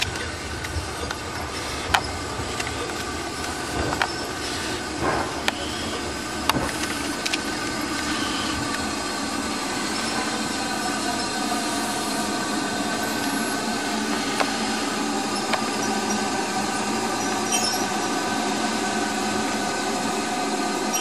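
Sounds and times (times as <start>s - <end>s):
squealing wheels: 0.0s - 21.0s
steam locomotive running: 0.0s - 21.0s.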